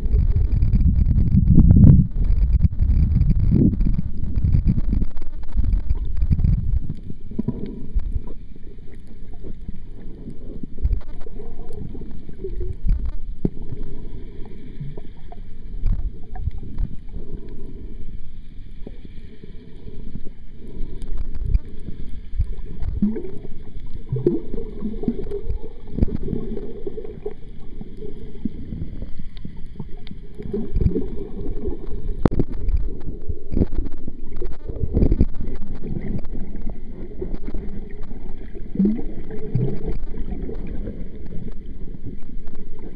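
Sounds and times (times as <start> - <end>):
muffled underwater rushing and sloshing: 0.0 - 42.9.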